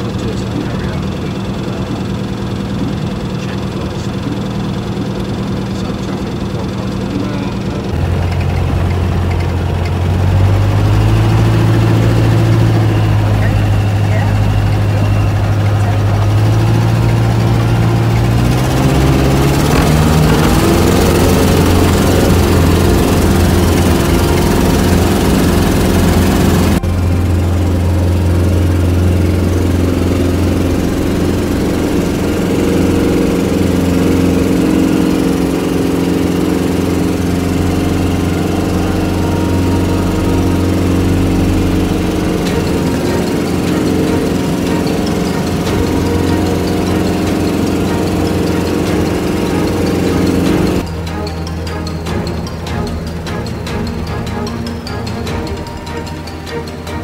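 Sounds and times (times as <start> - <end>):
aircraft engine revving for takeoff: 0.0 - 57.0
engine drone inside cabin: 0.0 - 57.0.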